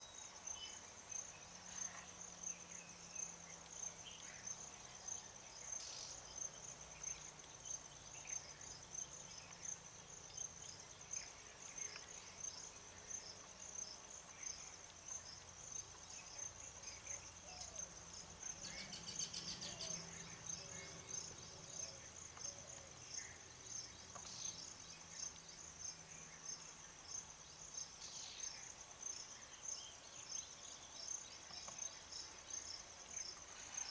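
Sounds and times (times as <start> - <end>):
insect chirping: 0.0 - 33.9.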